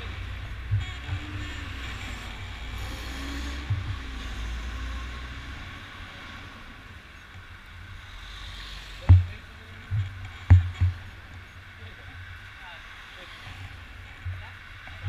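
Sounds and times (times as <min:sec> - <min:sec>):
cars passing close: 0:00.0 - 0:15.0
tyres hissing on asphalt: 0:00.0 - 0:15.0
wind rumbling on microphone: 0:00.0 - 0:15.0.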